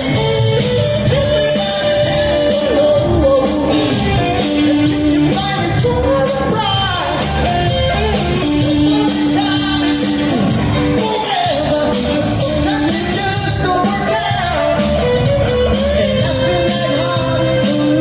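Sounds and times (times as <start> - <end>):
lead singer singing: 0.0 - 18.0
live rock band playing: 0.0 - 18.0
steady drum beat: 0.0 - 18.0.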